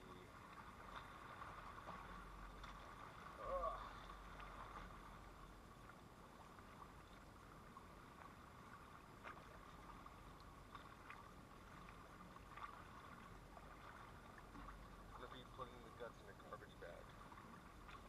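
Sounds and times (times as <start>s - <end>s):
water lapping at shore: 0.0s - 18.0s.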